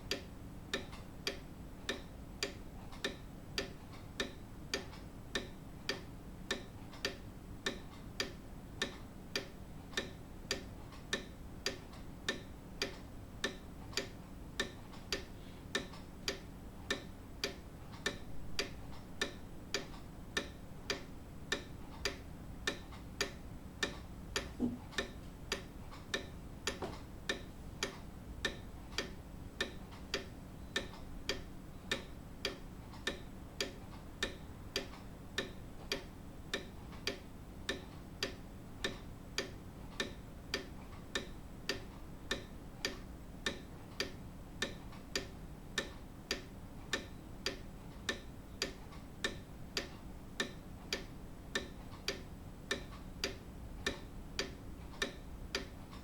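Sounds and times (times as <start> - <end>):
grandfather clock ticking: 0.0 - 56.0.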